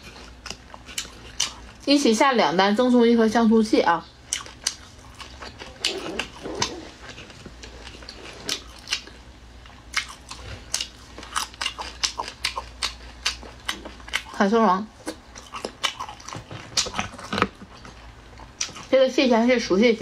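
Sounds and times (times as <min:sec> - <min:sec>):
chewing and crunching seafood: 0:00.0 - 0:02.1, 0:04.2 - 0:19.2.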